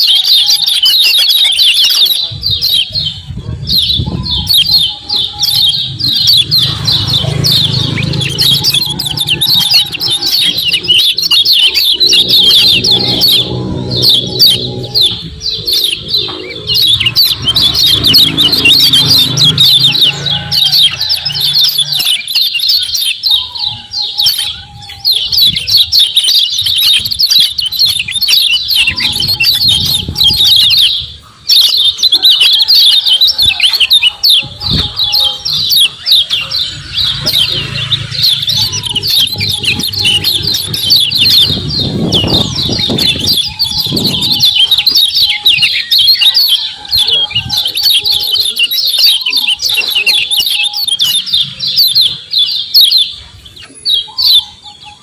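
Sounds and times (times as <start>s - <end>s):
bird chattering high chirps: 0.0s - 55.0s.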